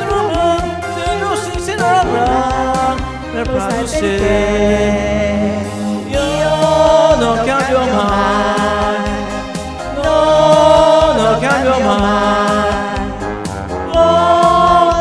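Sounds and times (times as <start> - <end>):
karaoke backing track: 0.0 - 15.0
people singing into microphones: 0.0 - 15.0.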